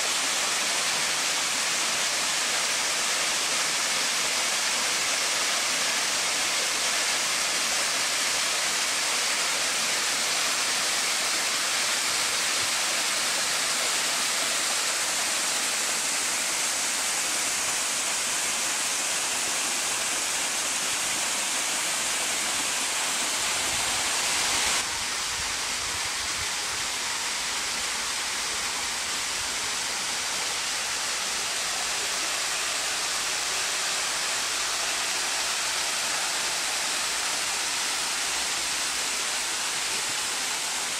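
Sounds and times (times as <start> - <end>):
water cascading into a pond: 0.0 - 40.9.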